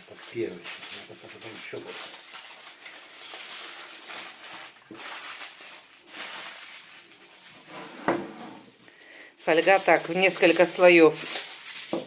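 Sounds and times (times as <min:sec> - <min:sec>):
aluminium foil crinkling: 0:00.0 - 0:07.7, 0:08.6 - 0:12.0.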